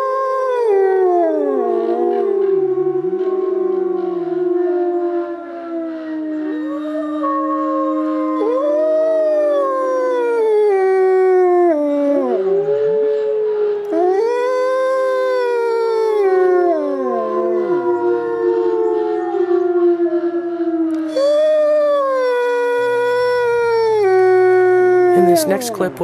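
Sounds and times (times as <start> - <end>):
wolves howling in chorus: 0.0 - 25.8.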